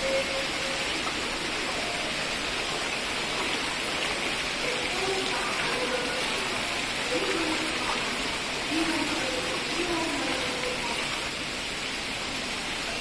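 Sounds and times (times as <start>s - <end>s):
water splashing down stone steps: 0.0s - 13.0s.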